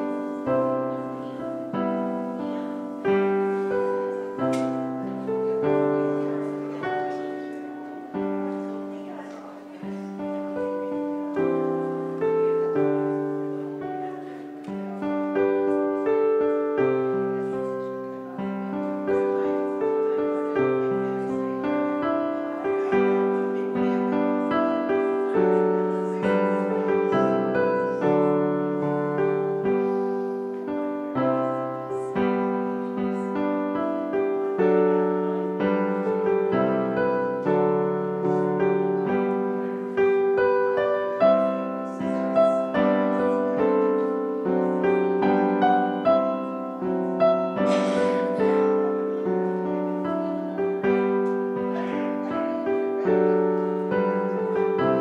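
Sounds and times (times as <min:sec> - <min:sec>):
slow piano chords: 0:00.0 - 0:55.0.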